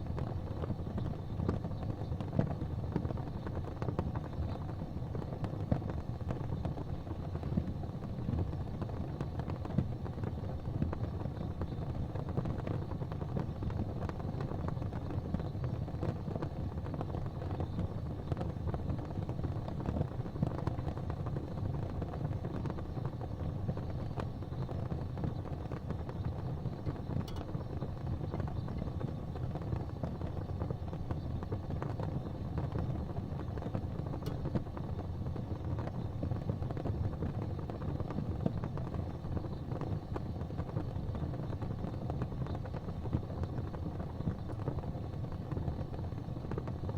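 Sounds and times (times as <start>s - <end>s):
faint crackles: 0.0s - 46.9s
gas fireplace flames rumbling: 0.0s - 46.9s.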